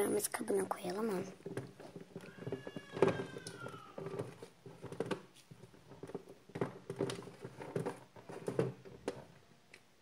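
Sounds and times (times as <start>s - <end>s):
play-dough taps and rustles: 0.0s - 10.0s.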